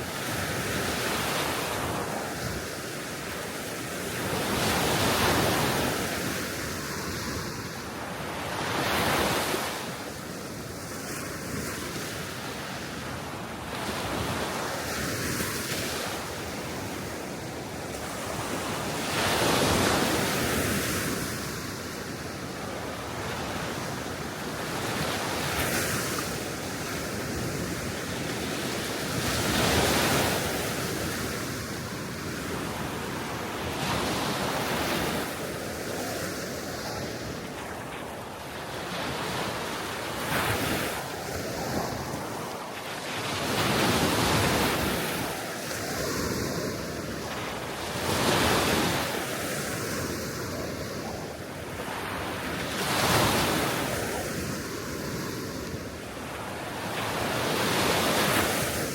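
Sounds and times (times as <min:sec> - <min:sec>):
small waves washing ashore: 0:00.0 - 0:58.9
wind over water: 0:00.0 - 0:58.9.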